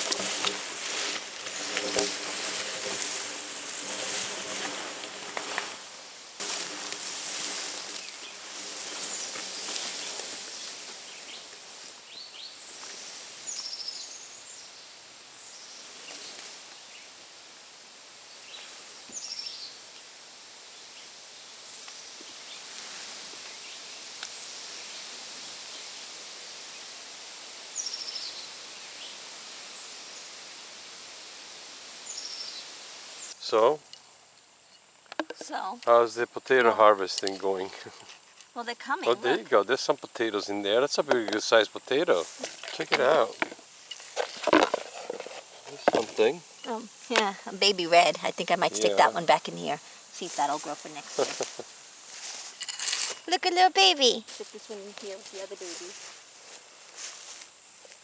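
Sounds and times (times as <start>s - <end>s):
steady rustling hiss: 0.0s - 58.0s.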